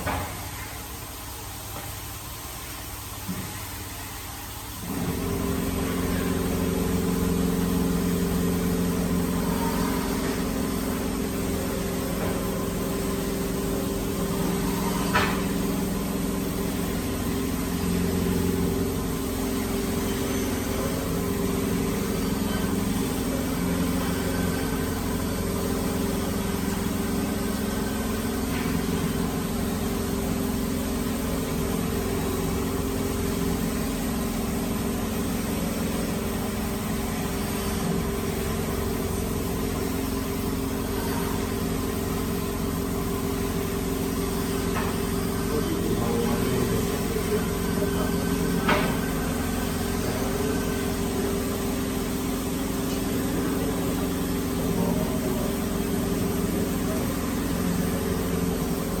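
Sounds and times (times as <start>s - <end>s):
machine motor humming: 4.8s - 59.0s.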